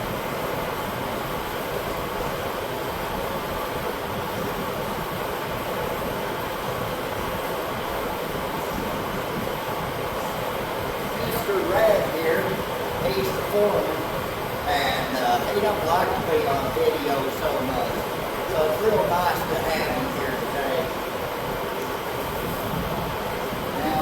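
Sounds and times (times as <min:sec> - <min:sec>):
large fan running: 0:00.0 - 0:24.0.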